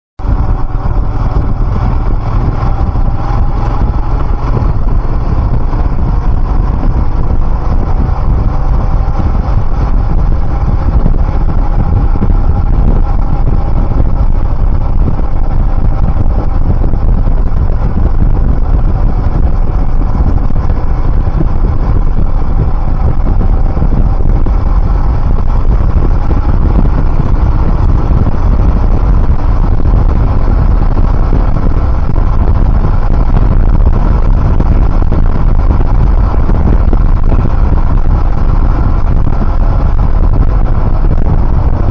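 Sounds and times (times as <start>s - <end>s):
motorcycle engine: 0.2s - 41.9s
road noise: 0.2s - 41.9s.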